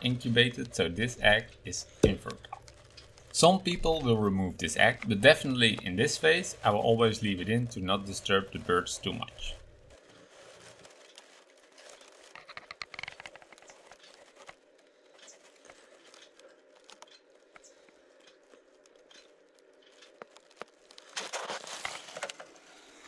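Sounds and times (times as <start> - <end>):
dry grass crackling and rustling: 0.0 - 23.0.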